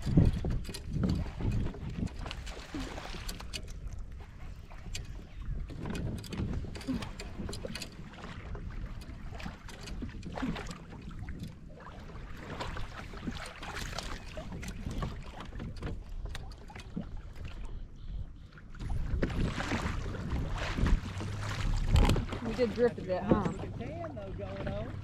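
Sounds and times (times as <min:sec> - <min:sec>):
small splashes and knocks: 0:00.0 - 0:17.7, 0:18.7 - 0:25.0
water lapping against kayak hull: 0:00.0 - 0:25.0
wind rumbling on microphone: 0:00.0 - 0:25.0.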